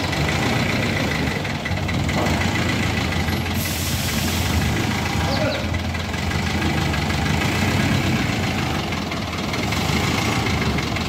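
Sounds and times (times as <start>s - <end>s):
forklift engine idling: 0.0s - 11.0s.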